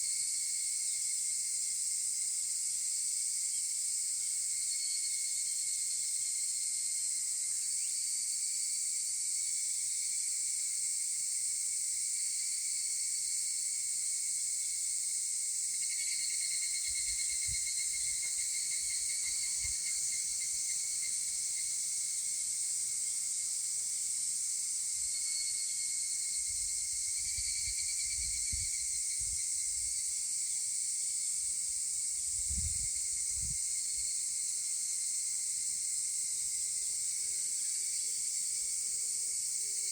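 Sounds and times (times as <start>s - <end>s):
cicadas calling in chorus: 3.1s - 39.9s.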